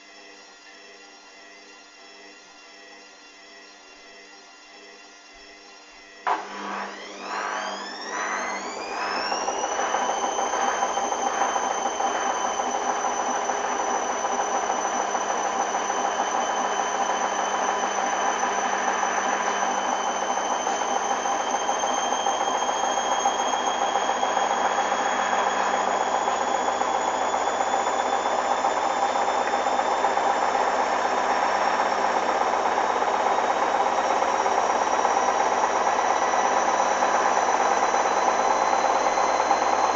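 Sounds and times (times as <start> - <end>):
washing machine spinning: 6.1 - 39.9.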